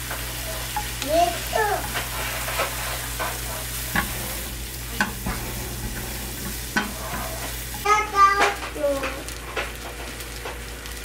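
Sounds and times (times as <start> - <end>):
spatula scraping and tapping pan: 0.0 - 10.6
food sizzling in a pan: 0.0 - 11.0.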